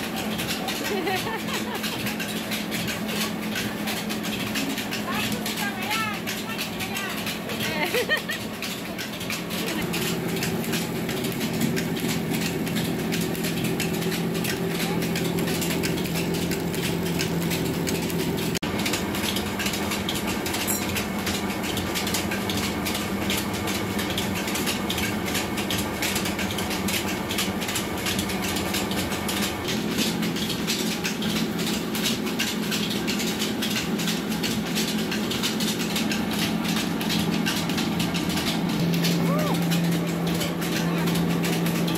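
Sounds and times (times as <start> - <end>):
rice hulling machine running: 0.0 - 41.9.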